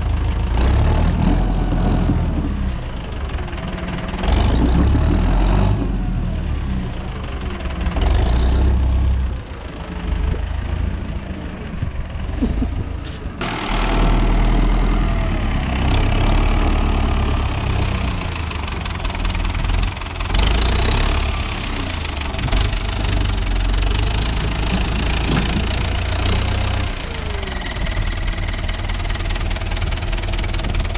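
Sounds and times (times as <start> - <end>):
tractor diesel engine clattering: 0.0 - 30.9.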